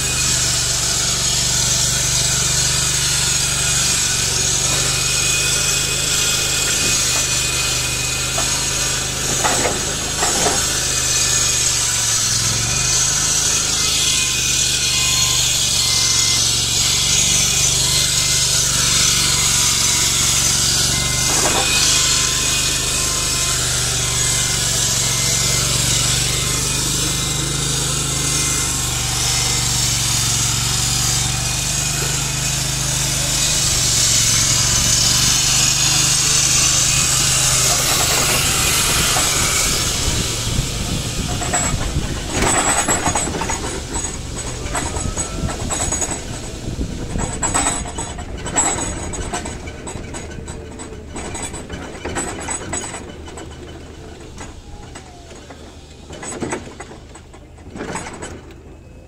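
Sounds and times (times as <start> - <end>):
forklift engine running: 0.0 - 59.0.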